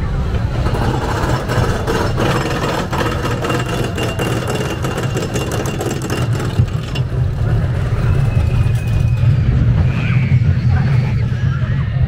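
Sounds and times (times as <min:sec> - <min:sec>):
low rumble: 0:00.0 - 0:12.0
roller coaster car clattering on track: 0:00.2 - 0:10.2.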